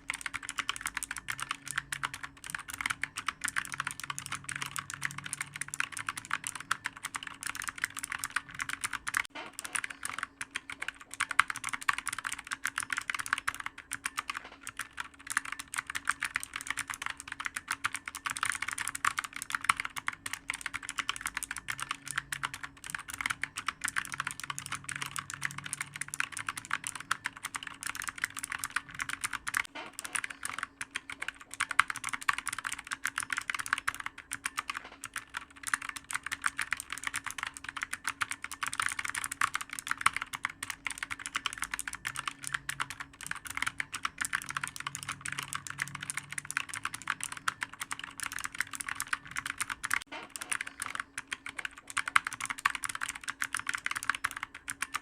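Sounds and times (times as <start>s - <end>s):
faint steady hum: 0.0s - 55.0s
keyboard typing: 0.0s - 55.0s.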